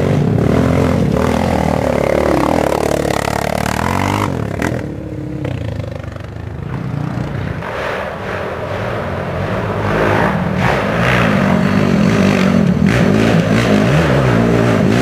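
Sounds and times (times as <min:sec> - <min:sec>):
quad engines revving past: 0:00.0 - 0:15.0.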